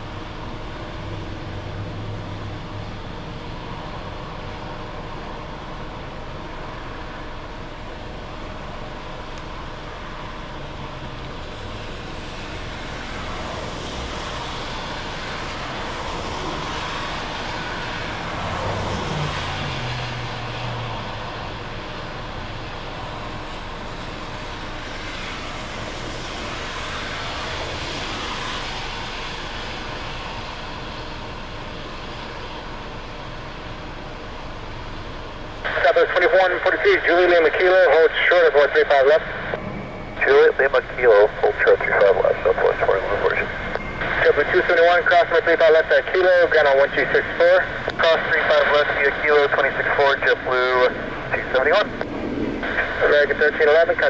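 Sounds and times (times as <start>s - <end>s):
jet engines rushing: 0.0s - 54.0s.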